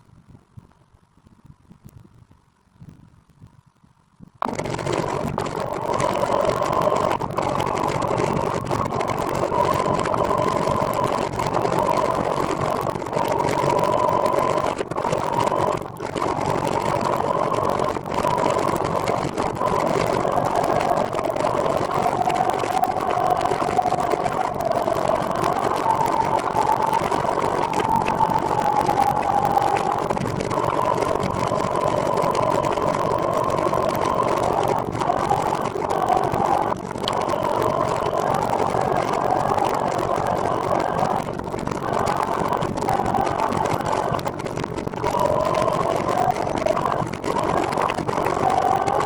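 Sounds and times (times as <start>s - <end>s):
trike engine whining drone: 4.4s - 49.0s.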